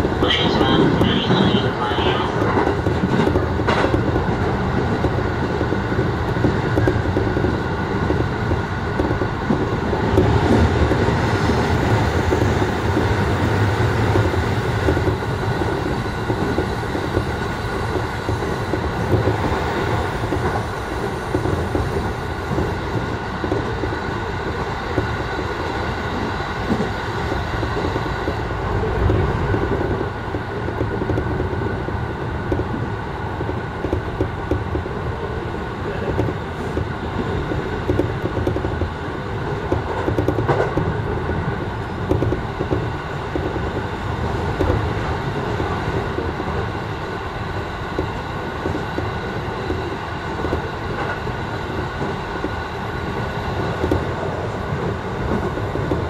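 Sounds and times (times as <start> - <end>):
faint clickety-clack: 0.0 - 56.0
train wheels rumbling on rail: 0.0 - 56.0.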